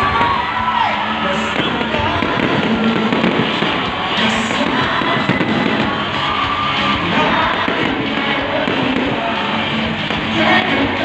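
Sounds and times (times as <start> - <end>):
music playing: 0.0 - 11.0
fireworks bursting and crackling: 1.2 - 11.0.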